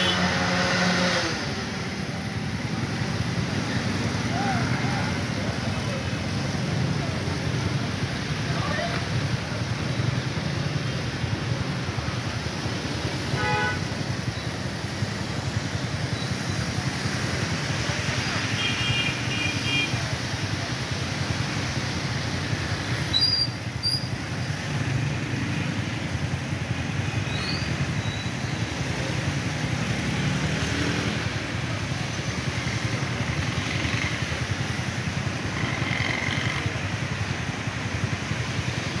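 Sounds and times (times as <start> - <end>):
engine noise: 0.0 - 19.4, 20.2 - 39.0.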